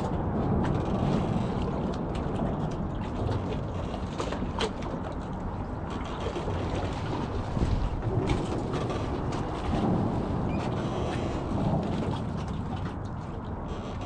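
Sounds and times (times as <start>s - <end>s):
water lapping around boat: 0.0s - 14.0s
wind rumbling on microphone: 0.0s - 14.0s.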